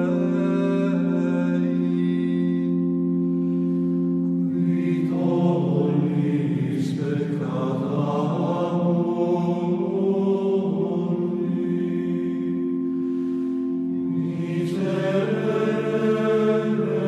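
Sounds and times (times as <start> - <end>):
slow chant-like music: 0.0 - 17.0
wavering layer of voices: 0.0 - 17.0.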